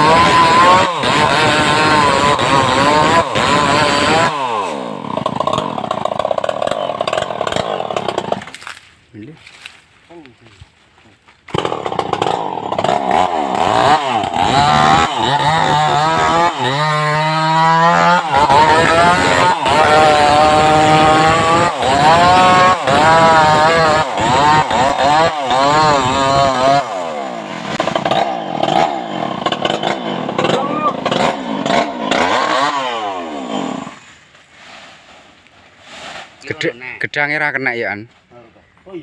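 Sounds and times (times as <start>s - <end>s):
chainsaw revving: 0.0s - 8.7s, 11.5s - 34.1s.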